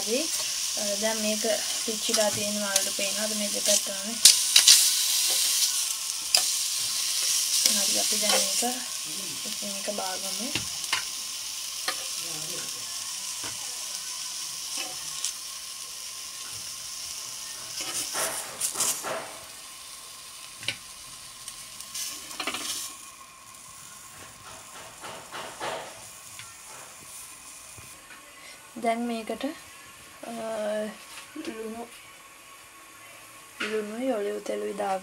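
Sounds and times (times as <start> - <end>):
vegetables sizzling on grill pan: 0.0 - 35.0.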